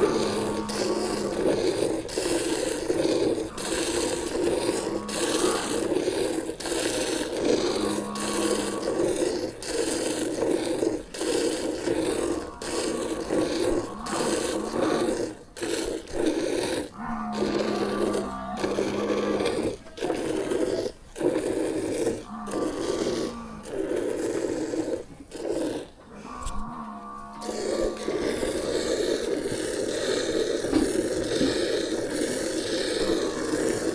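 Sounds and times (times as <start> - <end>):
milk squirting into a pail: 0.0 - 33.9.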